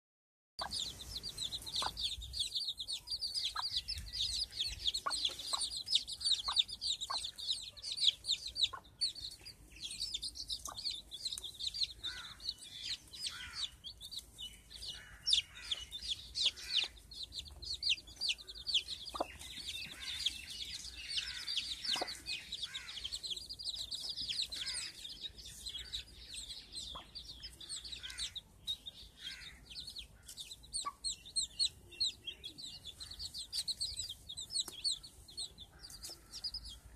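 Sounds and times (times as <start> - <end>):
hen clucking: 0.6 - 14.2, 14.8 - 28.8, 29.8 - 36.9
chicks peeping: 0.6 - 36.9.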